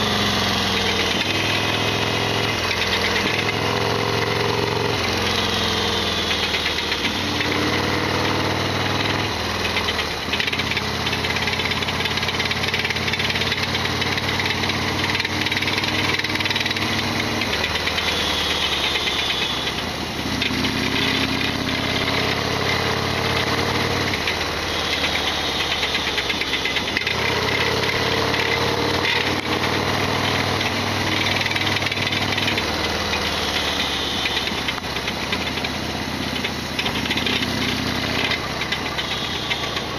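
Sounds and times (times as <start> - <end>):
loud rattling clatter: 0.0 - 39.9
motorcycle engine revving: 0.0 - 39.9.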